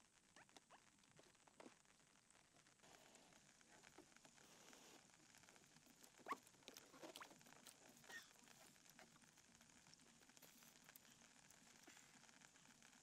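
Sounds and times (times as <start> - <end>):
faint night ambience: 0.0 - 13.0.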